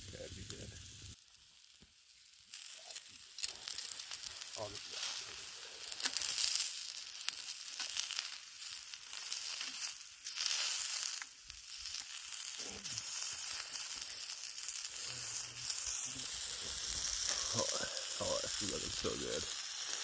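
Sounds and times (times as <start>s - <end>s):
fire crackling and popping: 0.0s - 20.0s
meat sizzling on hot stone: 0.0s - 20.0s.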